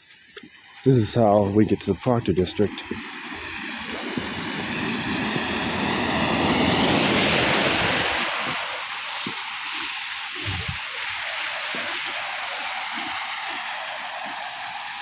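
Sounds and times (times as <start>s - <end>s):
car tyres hissing on wet street: 2.5s - 15.0s.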